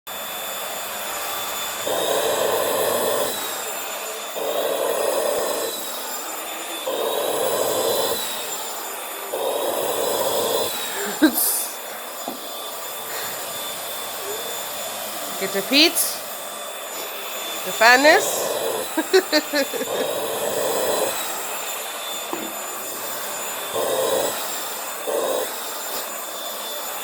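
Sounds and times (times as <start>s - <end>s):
vacuum cleaner whining: 0.1s - 27.0s.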